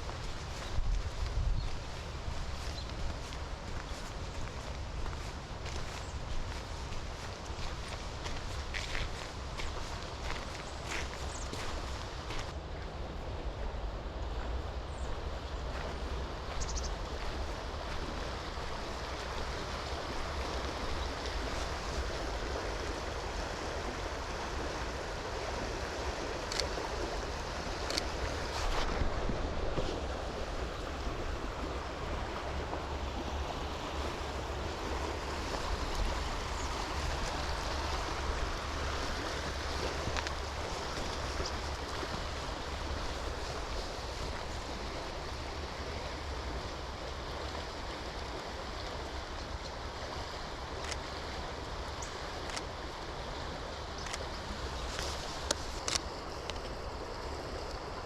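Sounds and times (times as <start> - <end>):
rain: 0.0 - 12.6, 13.4 - 58.0
river water flowing: 0.0 - 58.0
wind in the trees: 0.0 - 58.0
wind rumble on microphone: 0.0 - 58.0.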